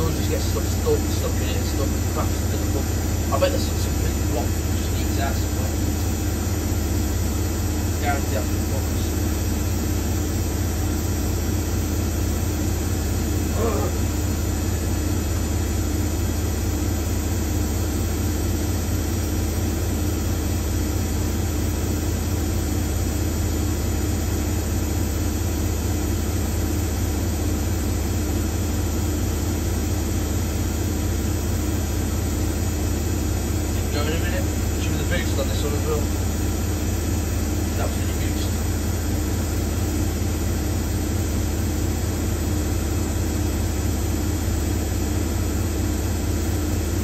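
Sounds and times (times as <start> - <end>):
washing machine spinning: 0.0 - 47.0.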